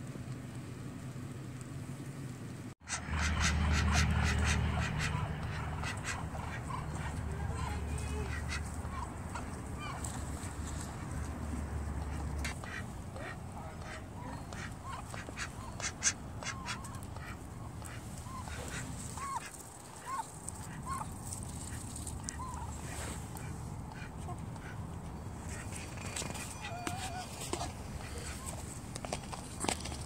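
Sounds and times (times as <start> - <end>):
ducks and hen calling softly: 2.9 - 28.8.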